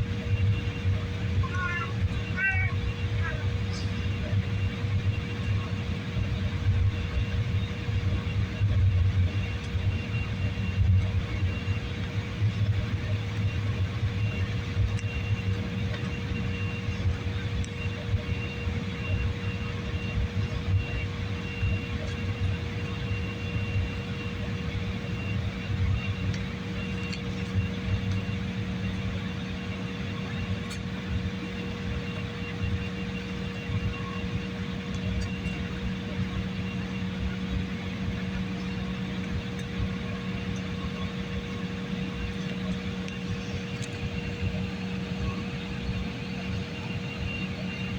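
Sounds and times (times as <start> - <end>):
aircraft engine drone: 0.0 - 47.9
constant low hum: 0.0 - 47.9.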